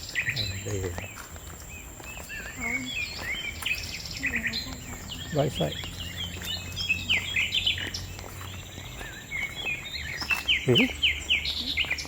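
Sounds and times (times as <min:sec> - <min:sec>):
birds calling and chirping: 0:00.0 - 0:12.0.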